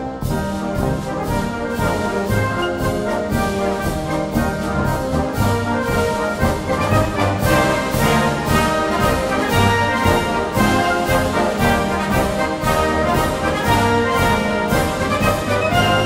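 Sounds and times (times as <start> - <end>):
brass-led orchestral music: 0.0 - 16.0.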